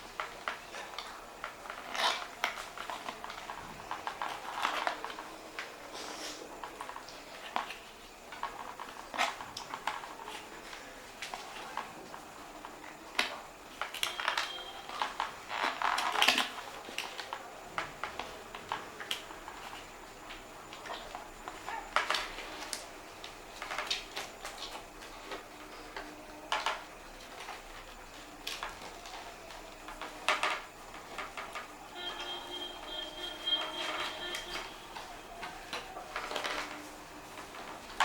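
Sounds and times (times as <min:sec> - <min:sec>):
plastic parts and packaging handled: 0:00.0 - 0:38.0.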